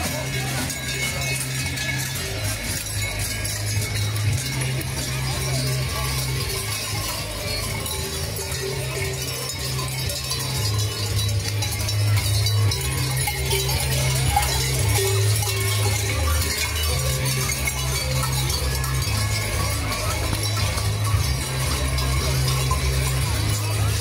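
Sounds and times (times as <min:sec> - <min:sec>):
cowbells clanging: 0:00.0 - 0:24.0.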